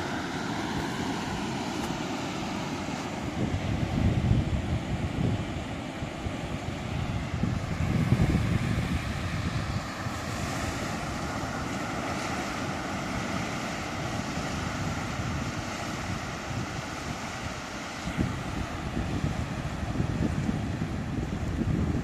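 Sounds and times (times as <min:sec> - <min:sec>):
sea waves breaking: 0:00.0 - 0:22.0
wind buffeting microphone: 0:00.0 - 0:22.0.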